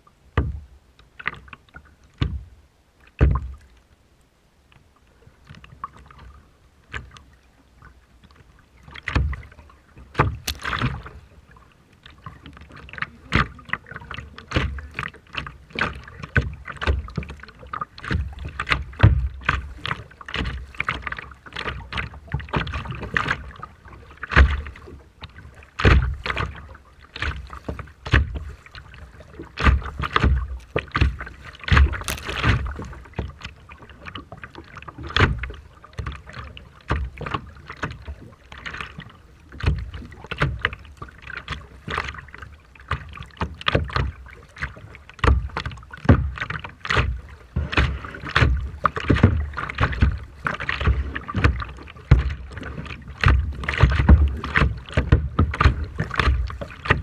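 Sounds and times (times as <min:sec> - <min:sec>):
sea water splashing: 0:04.8 - 0:57.0.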